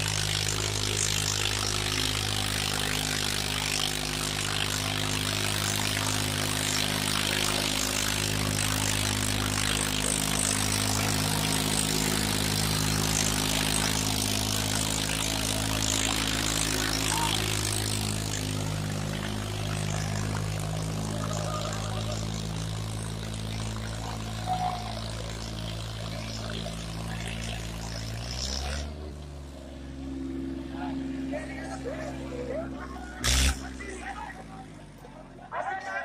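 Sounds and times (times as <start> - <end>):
tractor diesel engine at high revs: 0.0 - 35.8.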